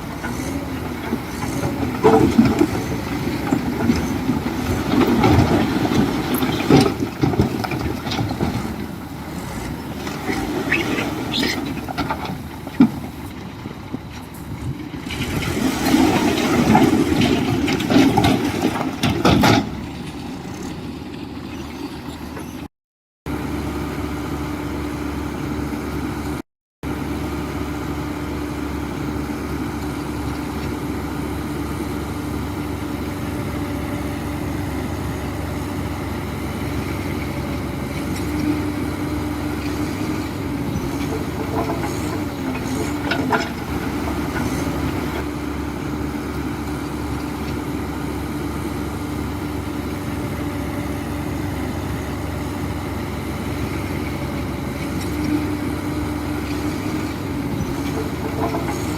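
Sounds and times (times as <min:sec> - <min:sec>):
diesel machinery humming: 0:00.0 - 0:22.7, 0:23.3 - 0:58.9.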